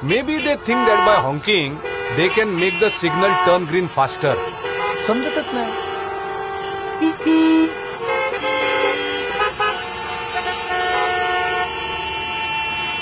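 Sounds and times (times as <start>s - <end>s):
car horns honking in traffic: 0.0s - 13.0s.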